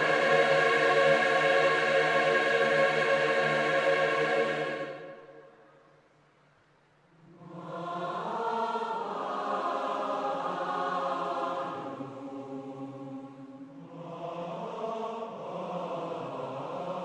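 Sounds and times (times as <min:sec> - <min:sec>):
choir singing held chords: 0:00.0 - 0:05.7, 0:07.2 - 0:17.0.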